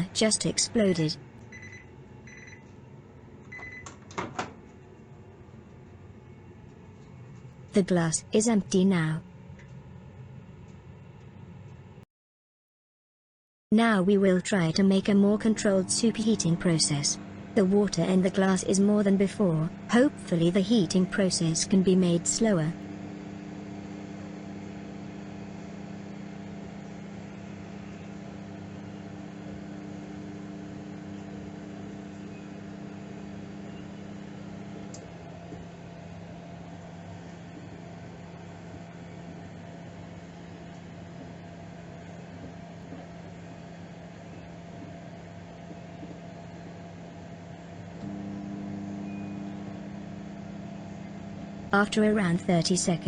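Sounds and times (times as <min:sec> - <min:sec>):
microwave oven humming: 0:00.0 - 0:12.0, 0:13.8 - 0:53.0.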